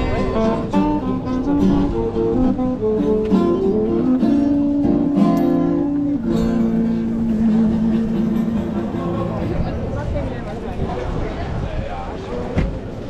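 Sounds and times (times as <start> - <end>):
acoustic guitar music: 0.0 - 10.8.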